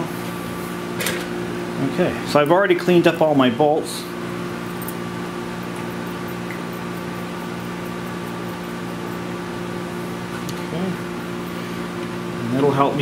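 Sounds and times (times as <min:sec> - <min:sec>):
appliance machine hum: 0:00.0 - 0:13.0.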